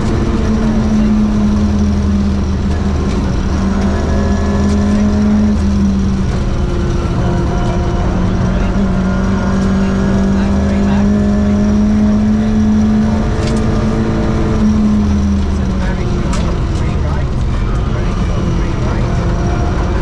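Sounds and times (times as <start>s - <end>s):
car engine under heavy load: 0.0s - 20.0s
road rumble: 0.0s - 20.0s.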